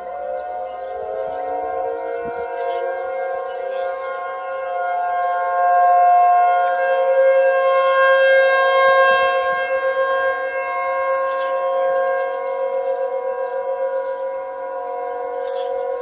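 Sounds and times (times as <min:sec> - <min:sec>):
warning siren steady tone: 0:00.0 - 0:16.0.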